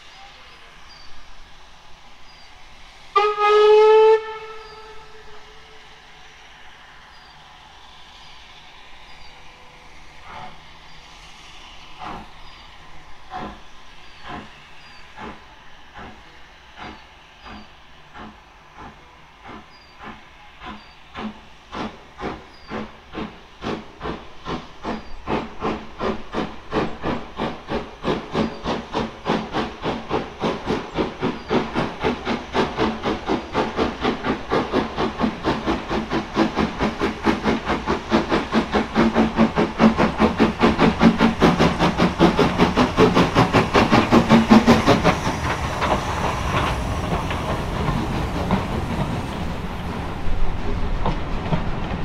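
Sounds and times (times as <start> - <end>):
rumble of passing train: 0.0 - 52.0
steam locomotive exhaust beats: 0.0 - 52.0.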